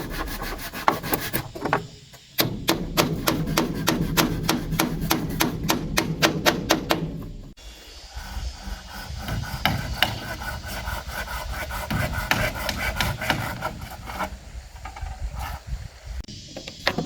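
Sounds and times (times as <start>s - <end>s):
hand tool rasping on wood: 0.0s - 1.7s, 2.4s - 15.7s.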